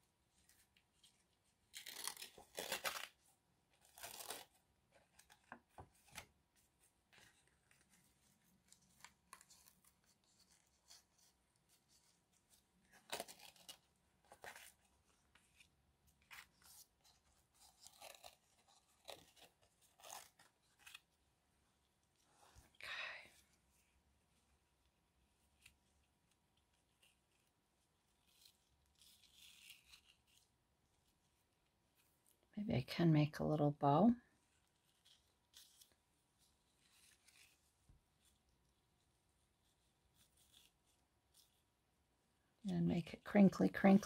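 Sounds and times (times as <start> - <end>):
paper and ribbon rustling: 0.2 - 21.3, 25.3 - 32.4, 34.4 - 41.8.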